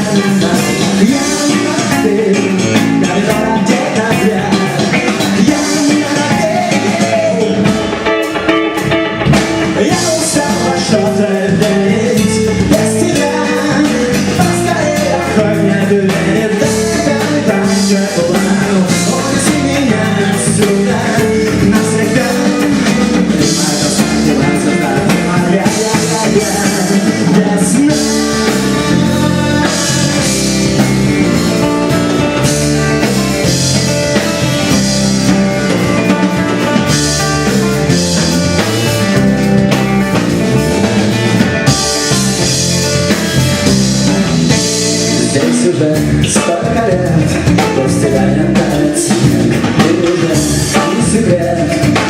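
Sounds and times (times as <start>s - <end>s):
person singing: 0.0s - 39.3s, 40.6s - 52.0s
rock song with drums and guitar: 0.0s - 52.0s.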